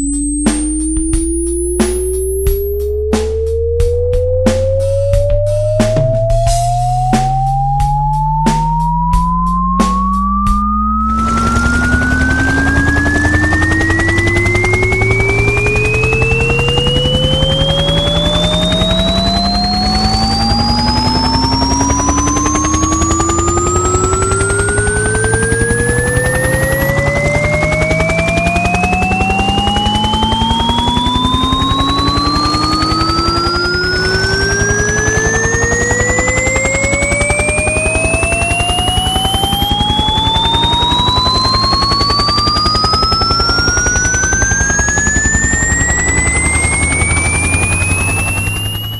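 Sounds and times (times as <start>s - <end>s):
helicopter rotor chopping: 0.0s - 3.3s, 4.0s - 48.9s
sine tones sweeping upward: 0.0s - 48.9s.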